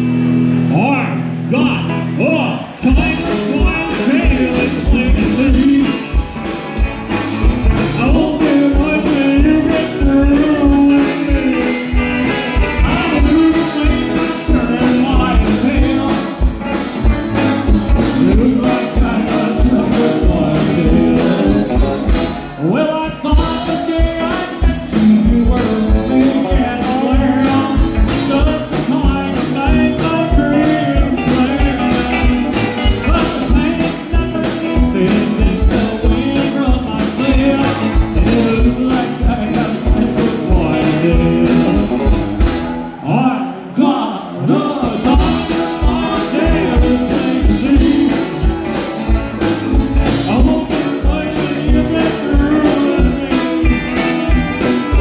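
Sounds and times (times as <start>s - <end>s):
live country-rock band: 0.0s - 55.0s
steady drum beat: 2.9s - 43.0s, 44.6s - 55.0s.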